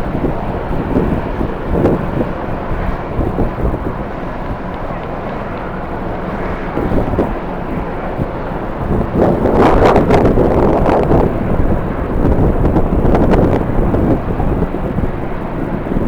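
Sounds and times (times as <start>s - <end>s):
steady low rumble: 0.0s - 16.0s
strong wind buffeting microphone: 0.0s - 16.0s.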